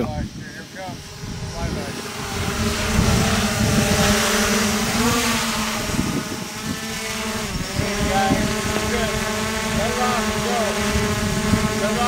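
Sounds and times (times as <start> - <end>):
drone propellers buzzing: 0.0 - 12.0
rotor wash hiss: 0.0 - 12.0.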